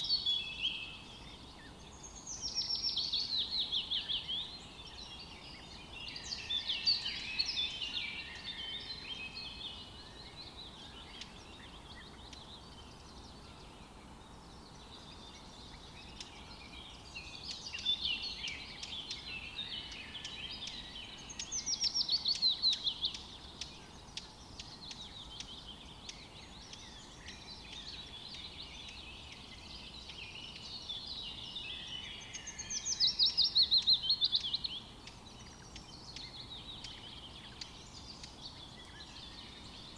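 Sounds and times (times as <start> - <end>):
birds singing: 0.0 - 39.9
faint steady hiss: 0.0 - 39.9.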